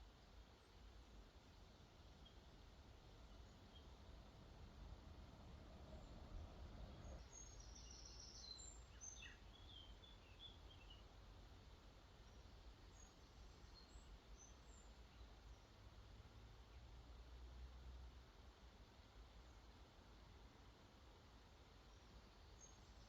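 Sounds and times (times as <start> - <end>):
faint birdsong chirps: 0.0 - 23.0
flowing water hiss: 0.0 - 23.0.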